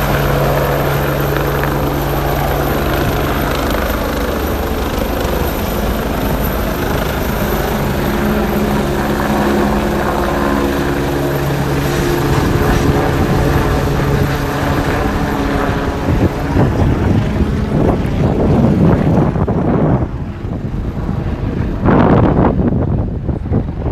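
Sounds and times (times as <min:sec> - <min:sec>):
helicopter engine and rotor rumble: 0:00.0 - 0:23.9
wind buffeting microphone: 0:00.0 - 0:23.9.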